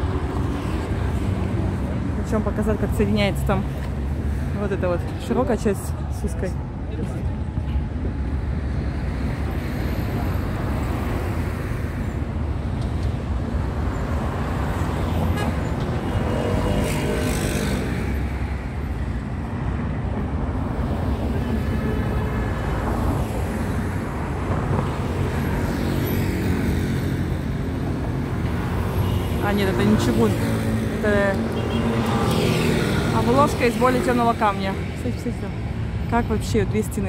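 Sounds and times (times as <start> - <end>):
city street traffic: 0.0 - 37.0.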